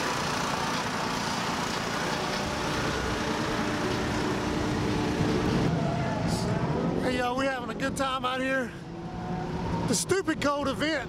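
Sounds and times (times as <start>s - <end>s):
car engines running: 0.0s - 11.0s
outdoor noise: 0.0s - 11.0s.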